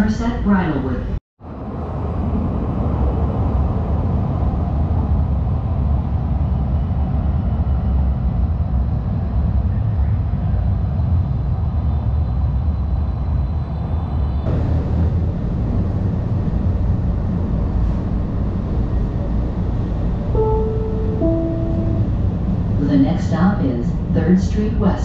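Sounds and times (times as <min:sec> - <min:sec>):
light rail car rumbling: 0:00.0 - 0:25.0.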